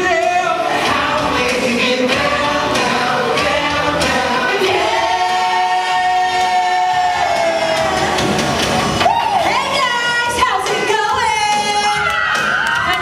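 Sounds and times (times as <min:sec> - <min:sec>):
music with several voices singing: 0:00.0 - 0:13.0.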